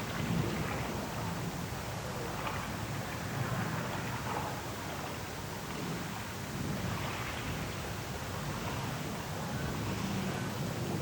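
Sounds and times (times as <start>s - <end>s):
wind blowing: 0.0s - 11.0s.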